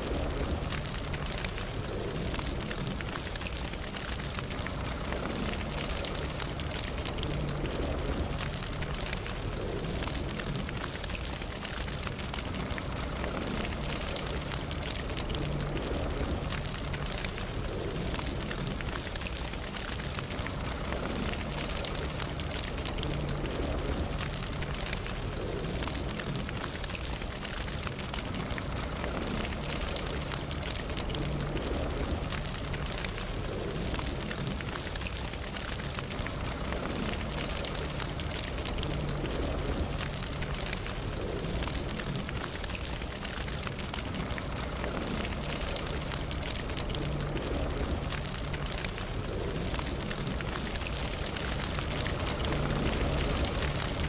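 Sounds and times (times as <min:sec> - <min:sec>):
campfire crackling and popping: 0:00.0 - 0:54.0
low rumble of flame: 0:00.0 - 0:54.0.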